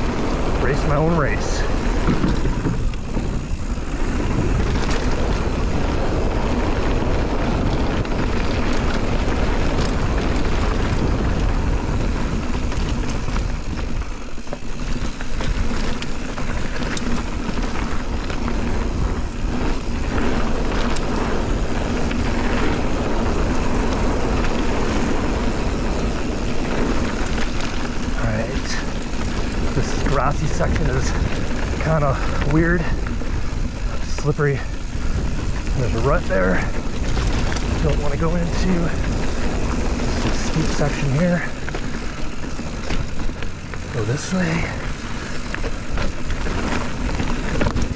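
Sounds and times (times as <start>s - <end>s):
bike rattling over bumps: 0.0s - 47.9s
tyres rolling over dirt: 0.0s - 47.9s
wind rushing over microphone: 0.0s - 47.9s.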